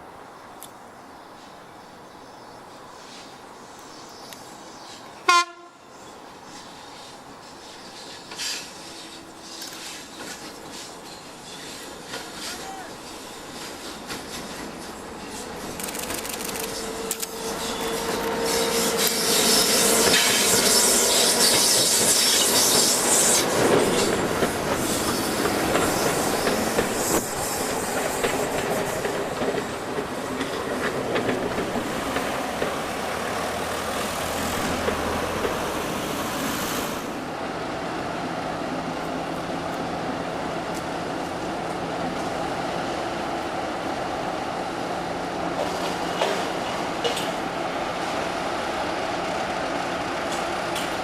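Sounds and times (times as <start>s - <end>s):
train passing on rails: 0.0s - 51.0s.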